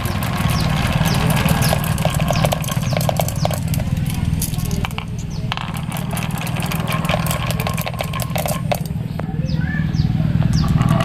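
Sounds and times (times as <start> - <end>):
marbles clattering down wooden run: 0.0 - 9.2, 10.4 - 11.0
low motor drone: 0.0 - 11.0.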